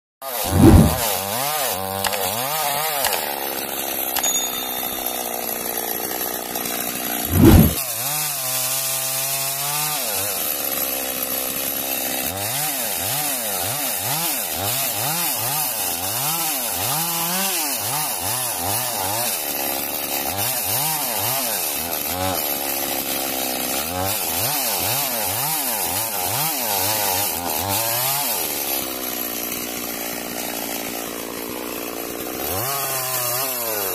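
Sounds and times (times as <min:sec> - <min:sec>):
chainsaw cutting wood: 0:00.2 - 0:33.9.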